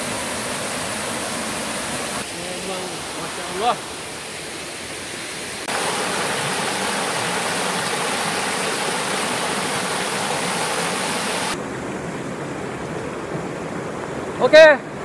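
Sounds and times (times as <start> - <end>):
stream water rushing over rocks: 0.0 - 15.0.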